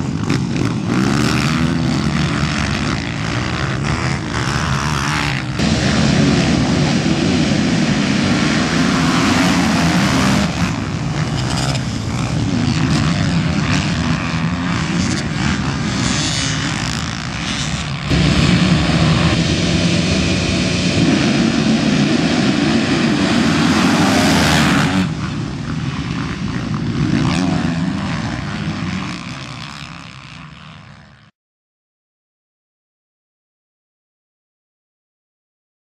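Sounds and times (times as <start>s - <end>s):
dirt bike engines revving: 0.0s - 31.3s.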